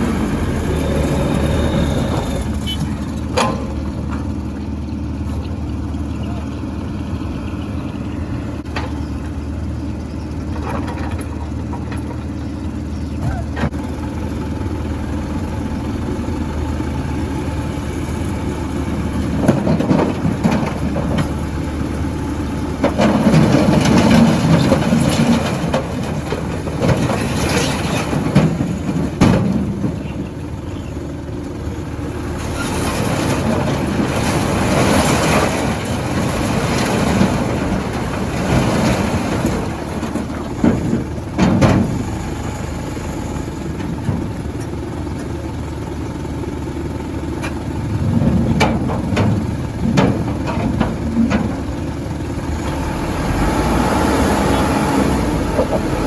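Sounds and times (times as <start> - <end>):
heavy diesel engine drone: 0.0 - 56.0.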